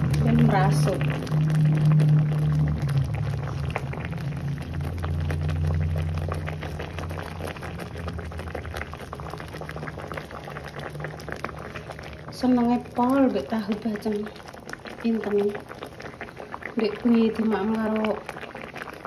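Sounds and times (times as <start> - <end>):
low hum: 0.0 - 15.7
sauce bubbling and crackling in a wok: 0.0 - 19.0.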